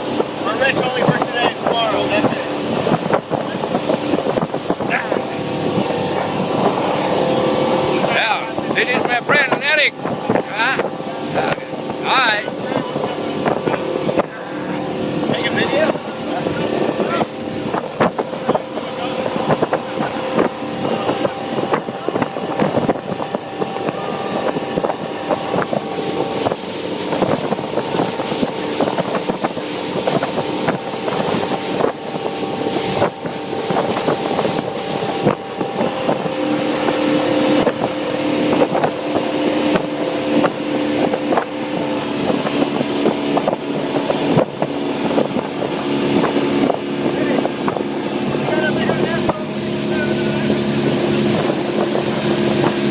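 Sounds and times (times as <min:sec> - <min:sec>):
motorboat engine drone: 0:00.0 - 0:52.9
wind buffeting microphone: 0:00.0 - 0:52.9.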